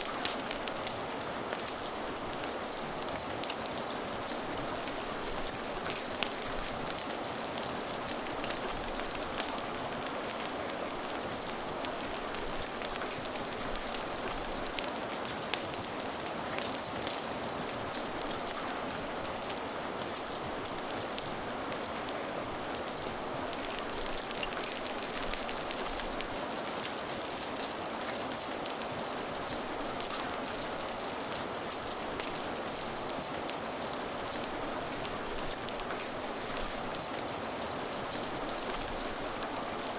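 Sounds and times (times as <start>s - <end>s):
raindrop ticks: 0.1s - 21.3s, 22.6s - 39.9s.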